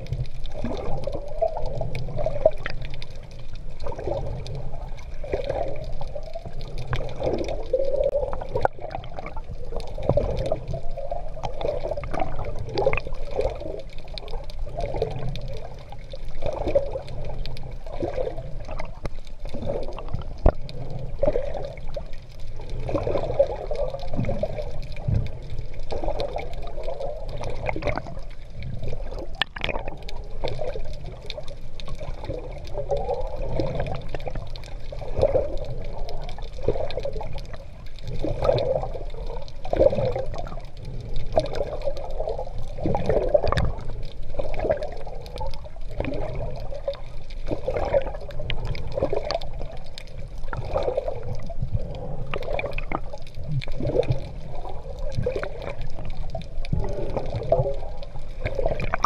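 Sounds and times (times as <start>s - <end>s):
sea water splashing: 0.0s - 59.0s.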